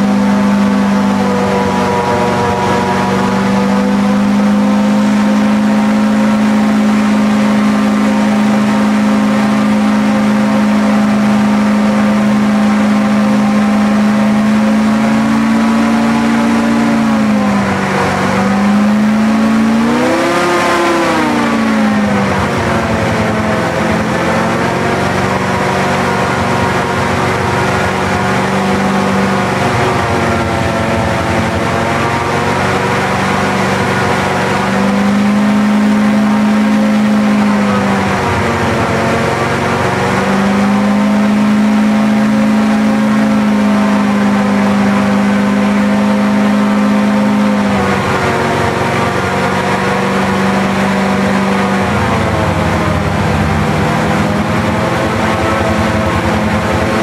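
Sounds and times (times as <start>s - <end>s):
airboat engine and propeller: 0.0s - 57.0s.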